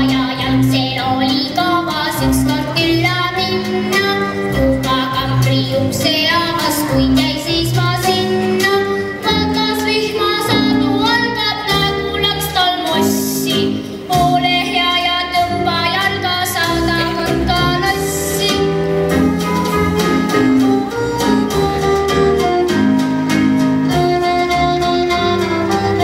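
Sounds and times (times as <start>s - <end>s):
song with singing and bass: 0.0s - 21.9s.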